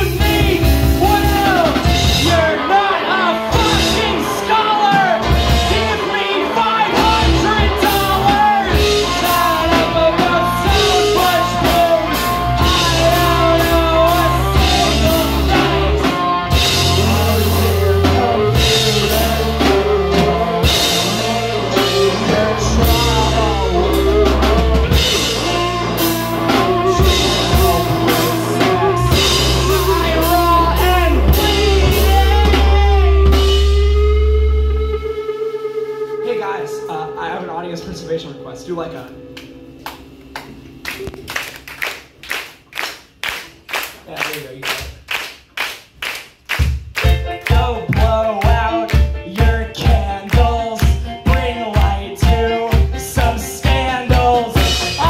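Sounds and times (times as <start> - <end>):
drum kit: 0.0 - 37.1, 46.5 - 55.0
person singing lead vocal: 0.0 - 38.5, 47.0 - 55.0
electric guitars: 0.0 - 41.7, 47.0 - 55.0.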